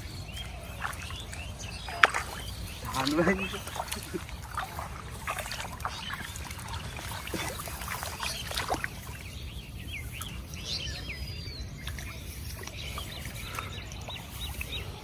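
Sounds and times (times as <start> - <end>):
bird chirping: 0.0 - 15.0
feet wading through water: 0.0 - 15.0.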